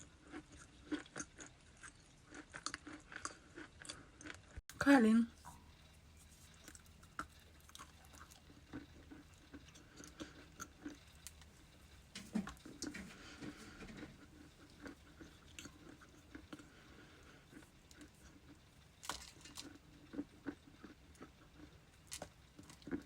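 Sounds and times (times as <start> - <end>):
ice being chewed: 0.0 - 4.6, 5.4 - 23.0.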